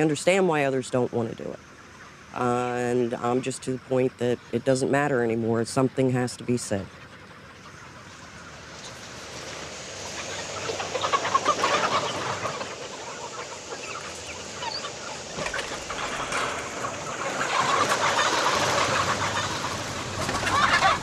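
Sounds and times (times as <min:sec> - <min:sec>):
chickens clucking and cheeping: 0:00.0 - 0:21.0.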